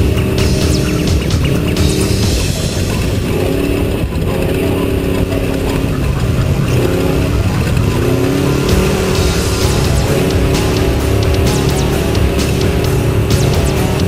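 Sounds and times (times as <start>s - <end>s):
truck engine revving under load: 0.0s - 14.0s.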